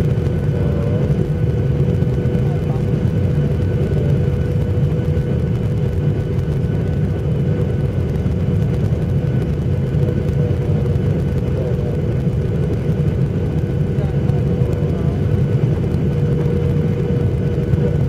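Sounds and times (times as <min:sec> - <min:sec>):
constant cabin hum: 0:00.0 - 0:18.0
engine and airflow rumble: 0:00.0 - 0:18.0.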